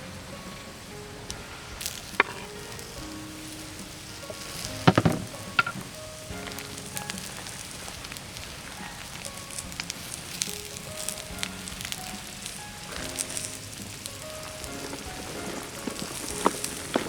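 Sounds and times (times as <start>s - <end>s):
food sizzling in a pan: 0.0s - 17.0s
wood fire crackling and popping: 0.0s - 17.0s.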